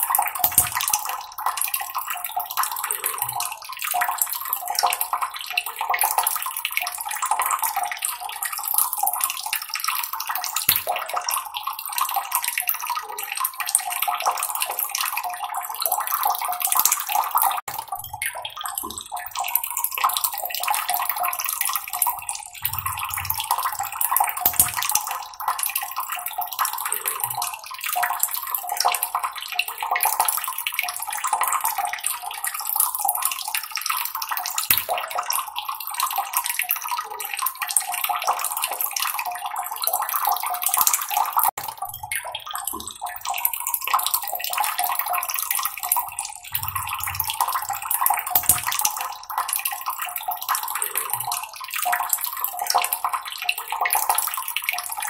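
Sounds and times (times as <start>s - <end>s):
water trickling and babbling: 0.0s - 55.0s.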